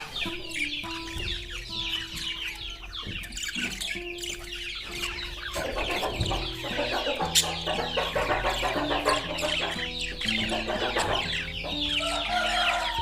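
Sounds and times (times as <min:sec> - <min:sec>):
parrots chattering and chirping: 0:00.0 - 0:13.0
music with long held notes: 0:00.1 - 0:13.0.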